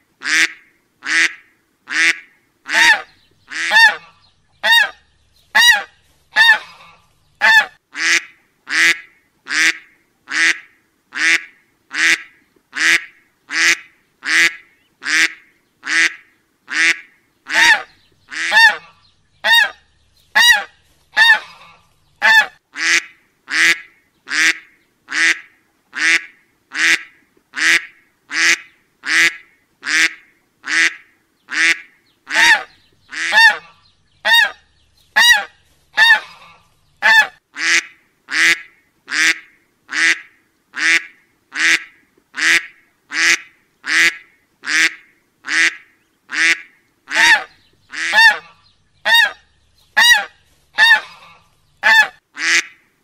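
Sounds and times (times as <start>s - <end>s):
duck quacking: 0.2s - 5.0s, 5.6s - 19.8s, 20.4s - 34.6s, 35.2s - 49.4s, 50.0s - 52.8s.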